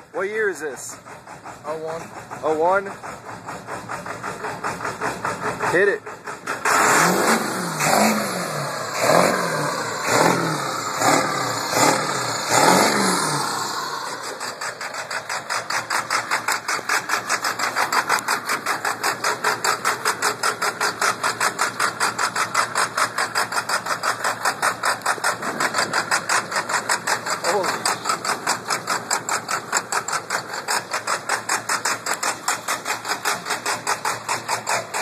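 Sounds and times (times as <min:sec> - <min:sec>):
pickup engine revving and idling: 0:00.0 - 0:35.0.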